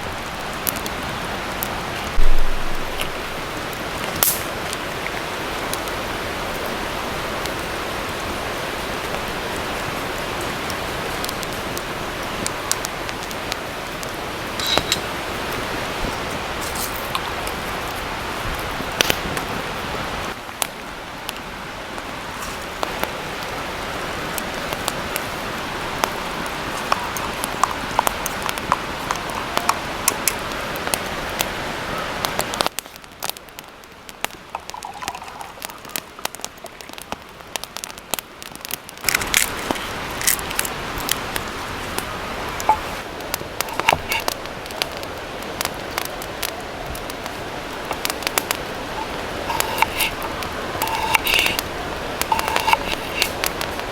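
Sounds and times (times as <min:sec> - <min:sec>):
wood fire crackling and popping: 0:00.0 - 0:19.6, 0:22.0 - 0:31.6, 0:32.2 - 0:53.9.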